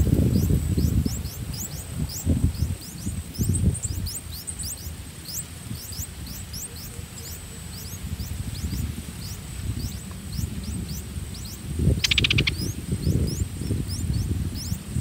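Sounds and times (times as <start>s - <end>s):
nestlings chirping: 0.0s - 15.0s.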